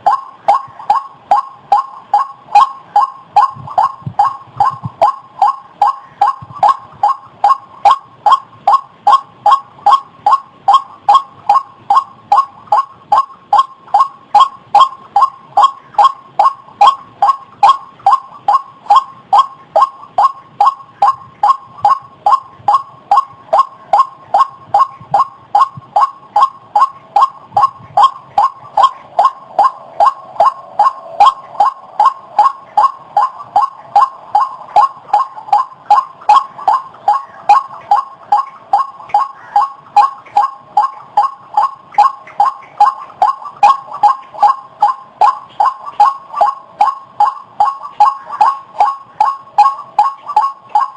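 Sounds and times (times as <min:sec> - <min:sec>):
waterhen calling harsh notes: 0:00.0 - 0:50.9.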